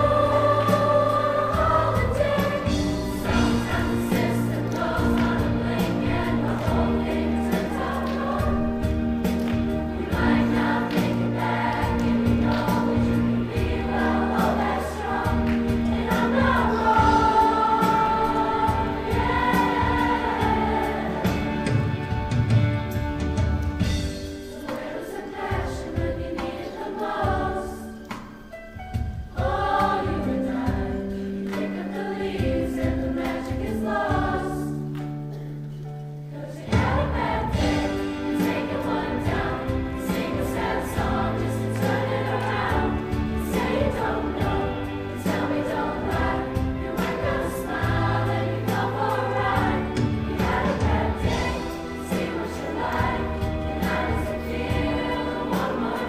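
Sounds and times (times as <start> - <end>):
choir singing pop arrangement: 0.0 - 35.6, 36.2 - 56.0
musical accompaniment with steady beat: 0.0 - 56.0.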